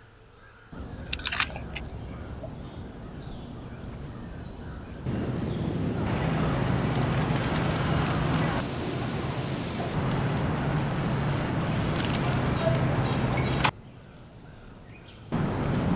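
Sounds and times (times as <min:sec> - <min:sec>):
distant traffic rumble: 0:00.8 - 0:13.7, 0:15.3 - 0:15.9.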